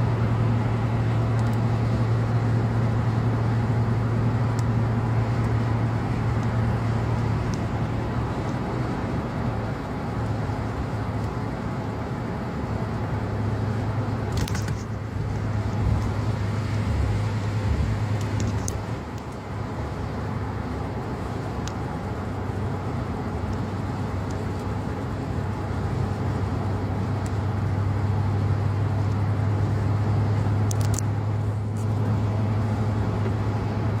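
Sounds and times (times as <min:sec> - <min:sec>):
road and tyre noise in car: 0:00.0 - 0:34.0.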